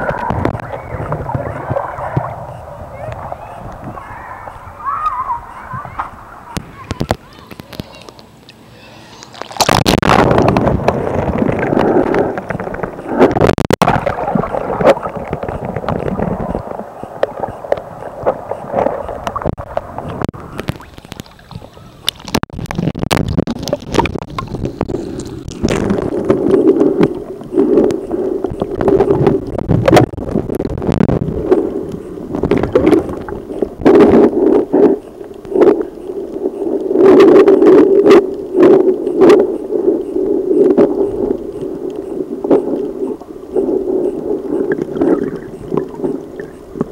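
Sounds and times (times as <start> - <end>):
water rushing as camera plunges in: 0.0 - 7.8, 9.2 - 46.9
muffled underwater gurgling: 0.0 - 46.9.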